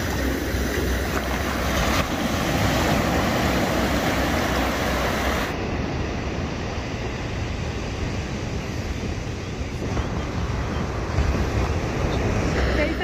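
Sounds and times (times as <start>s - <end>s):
surf washing over sand: 0.0s - 13.0s
wind rumbling on microphone: 0.0s - 13.0s.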